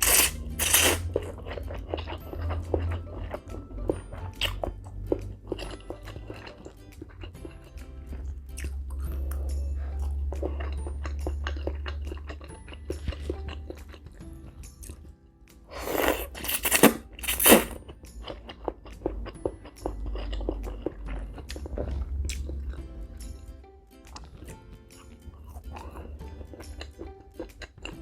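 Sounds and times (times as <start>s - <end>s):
crunching and chewing: 0.0s - 3.6s, 4.2s - 15.1s, 15.7s - 22.9s, 24.0s - 28.0s.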